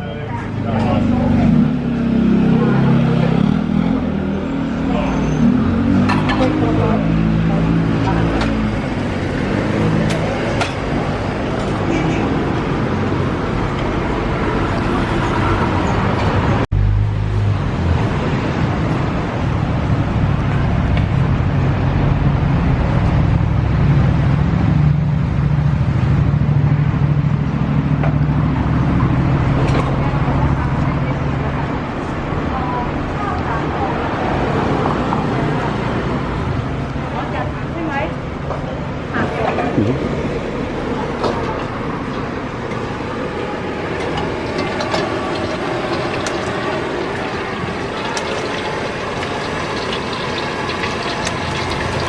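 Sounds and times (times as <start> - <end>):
city street traffic: 0.0 - 52.0
engine hum close by: 0.3 - 52.0.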